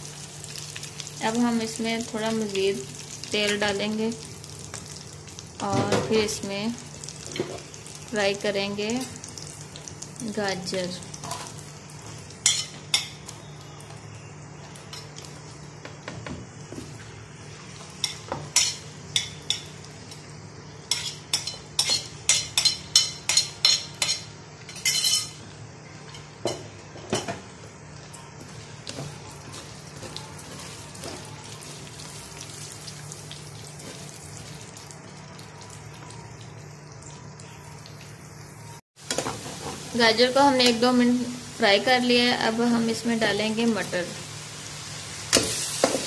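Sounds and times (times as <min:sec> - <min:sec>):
vegetables sizzling in oil: 0:00.0 - 0:46.0.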